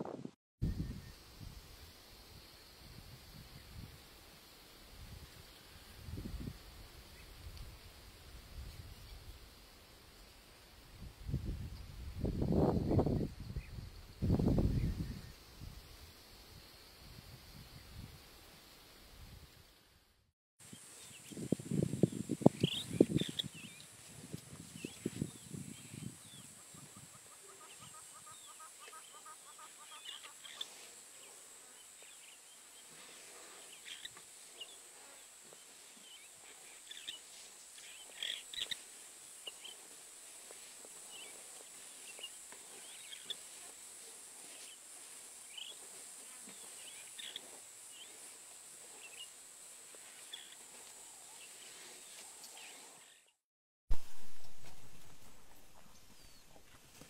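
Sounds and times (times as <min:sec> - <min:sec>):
steady high hiss: 0:00.7 - 0:53.0.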